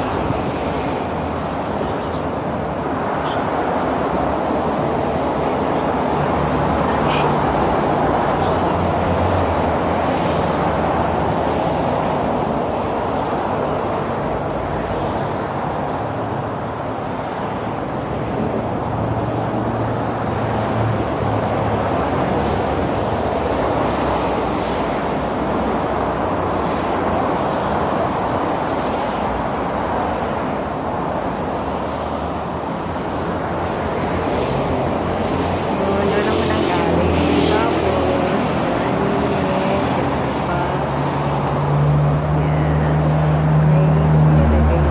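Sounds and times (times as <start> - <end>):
expressway traffic noise: 0.0 - 44.9.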